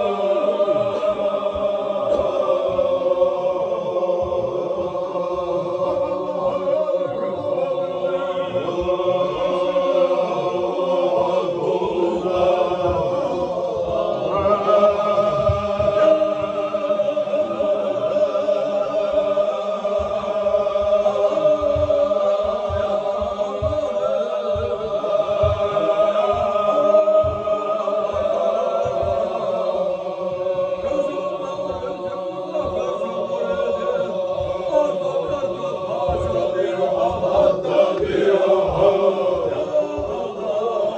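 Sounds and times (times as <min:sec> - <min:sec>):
men chanting together: 0:00.0 - 0:40.9.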